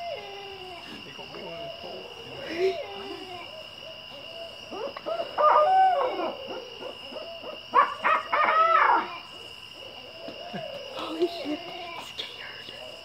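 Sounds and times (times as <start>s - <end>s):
owls hooting: 0.0s - 13.0s
wild wavering owl calls: 0.0s - 13.0s.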